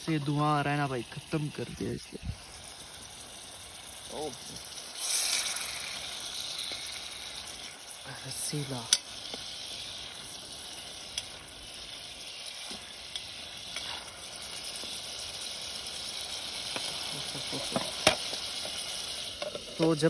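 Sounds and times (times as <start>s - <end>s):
fish sizzling: 0.0s - 20.0s.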